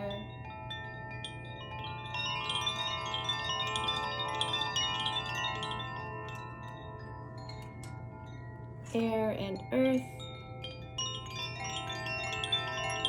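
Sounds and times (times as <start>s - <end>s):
wind chimes ringing: 0.0s - 13.0s.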